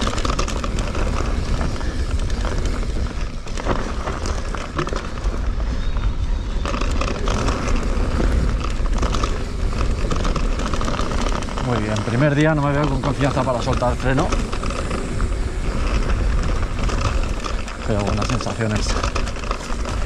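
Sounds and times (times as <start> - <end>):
bike clattering and rattling: 0.0 - 20.0
tyres crunching over gravel: 0.0 - 20.0
wind rumble on microphone: 0.0 - 20.0.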